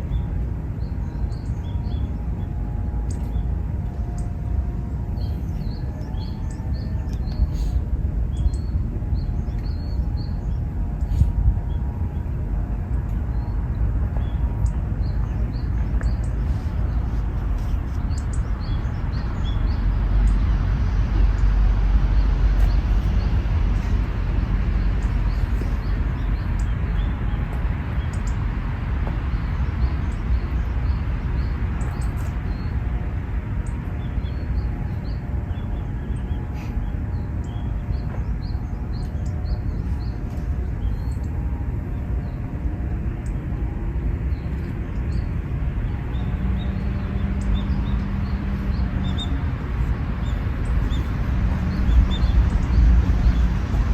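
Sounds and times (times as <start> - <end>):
small birds chirping: 0.0 - 43.5, 44.2 - 53.9
low outdoor rumble: 0.0 - 53.9.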